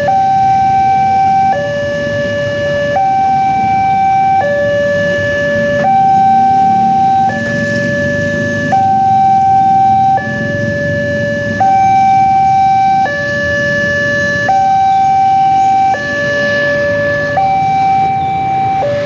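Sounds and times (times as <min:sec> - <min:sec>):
two-tone crossing siren: 0:00.0 - 0:19.0.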